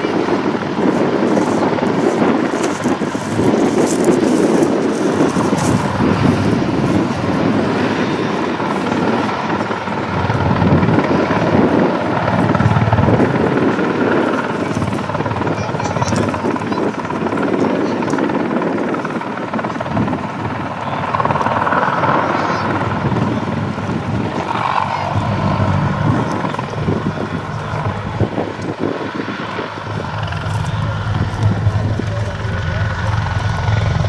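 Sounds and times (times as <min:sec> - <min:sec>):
helicopter rotor noise: 0:00.0 - 0:34.0.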